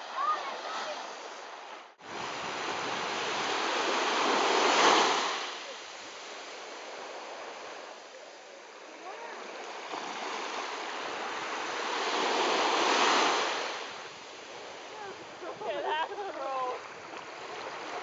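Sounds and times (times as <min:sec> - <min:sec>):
ocean wave breaking on shore: 0:00.0 - 0:18.0.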